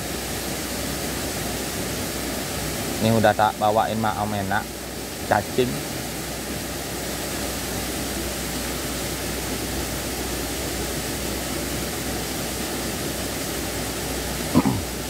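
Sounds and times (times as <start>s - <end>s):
waterfall rushing into pond: 0.0s - 15.0s.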